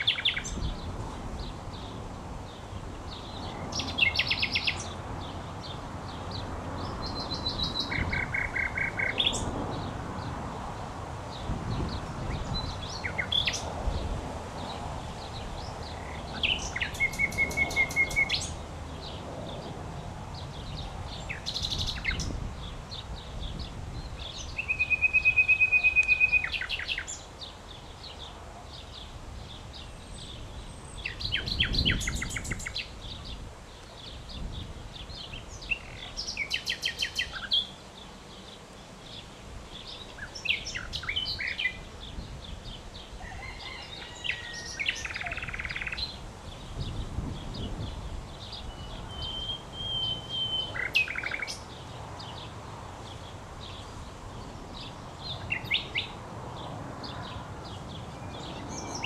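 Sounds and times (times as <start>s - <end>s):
nightingale singing: 0.0s - 9.5s, 11.4s - 13.7s, 15.3s - 18.6s, 20.4s - 52.5s, 53.1s - 56.2s.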